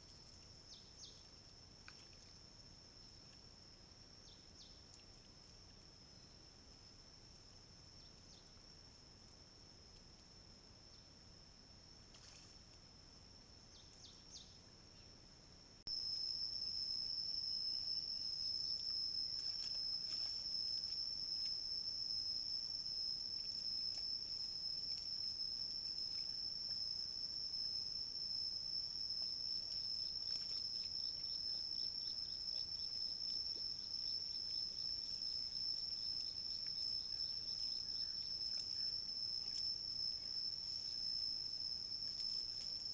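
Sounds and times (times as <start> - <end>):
animals rooting in dirt: 0.0 - 14.9, 15.9 - 42.9
high-pitched insect drone: 0.0 - 15.1, 15.9 - 42.9.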